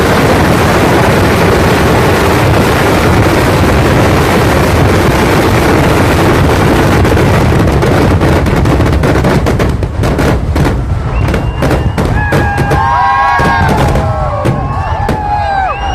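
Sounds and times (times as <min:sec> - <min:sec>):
fireworks bangs: 0:00.0 - 0:15.9.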